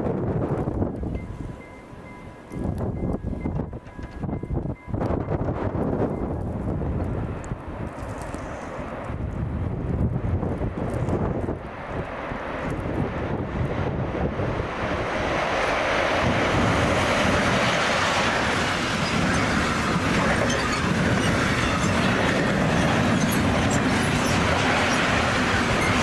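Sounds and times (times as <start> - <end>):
wind on microphone: 0.0 - 1.6, 2.5 - 26.0
train running past: 0.0 - 26.0.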